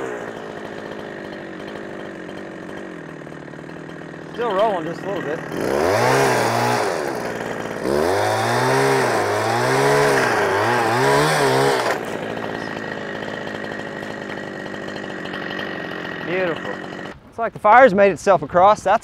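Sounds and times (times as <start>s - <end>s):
chainsaw cutting wood: 0.0s - 17.4s.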